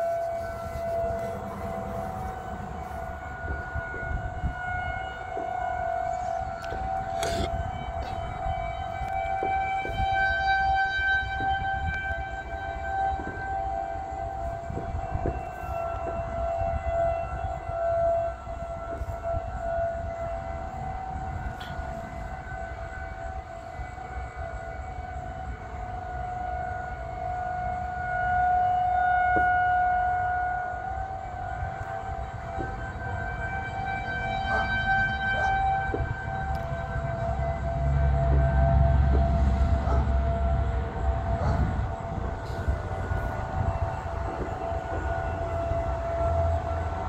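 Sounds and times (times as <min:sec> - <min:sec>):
rotating warning siren: 0:00.0 - 0:47.0.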